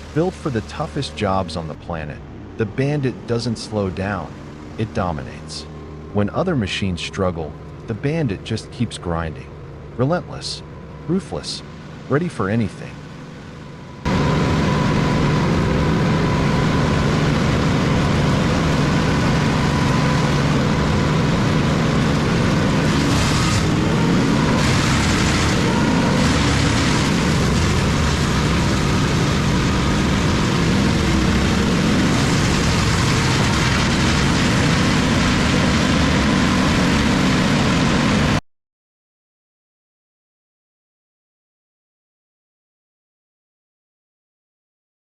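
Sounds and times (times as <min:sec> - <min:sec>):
wood chipper running: 0:00.0 - 0:12.3, 0:13.0 - 0:38.4.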